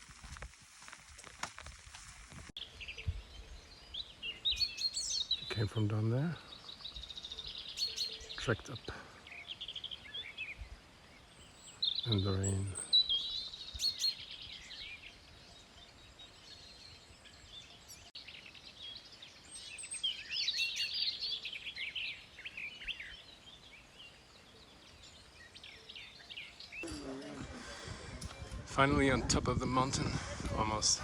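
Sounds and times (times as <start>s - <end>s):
songbirds chirping: 2.5s - 31.0s.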